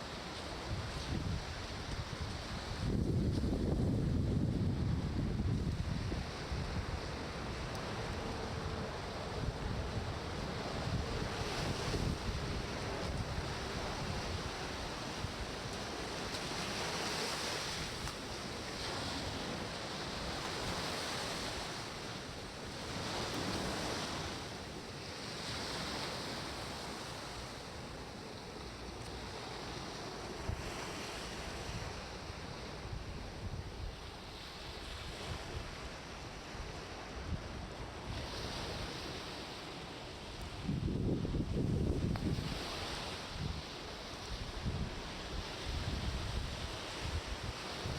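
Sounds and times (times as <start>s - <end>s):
ocean surf washing onto beach: 0.0s - 47.9s
wind rumbling on microphone: 0.0s - 47.9s.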